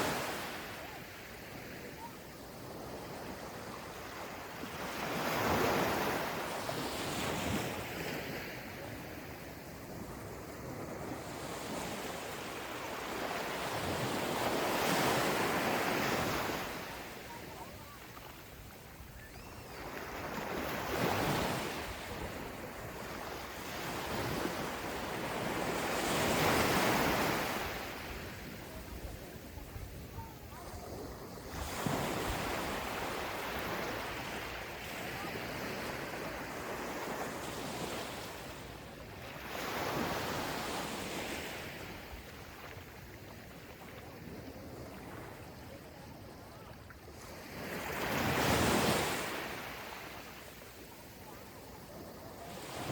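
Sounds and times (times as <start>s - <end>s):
ocean waves on sand: 0.0s - 52.9s.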